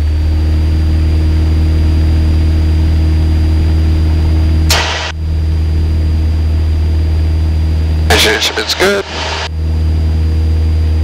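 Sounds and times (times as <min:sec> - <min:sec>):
aircraft piston engine at full power: 0:00.0 - 0:11.0.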